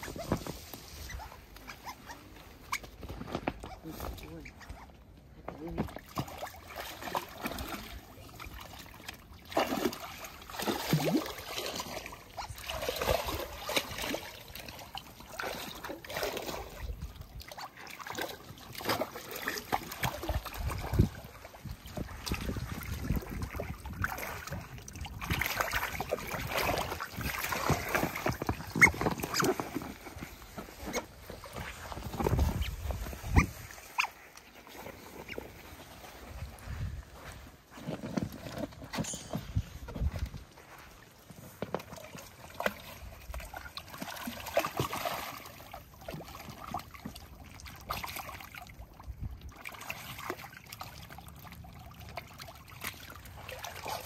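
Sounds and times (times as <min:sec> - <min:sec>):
water splashing: 0:05.4 - 0:36.8, 0:39.3 - 0:54.0.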